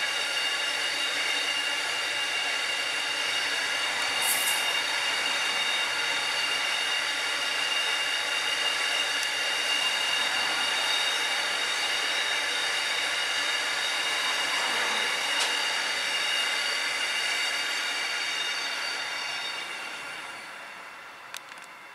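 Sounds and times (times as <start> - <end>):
high wheel squeal: 0.0 - 21.2.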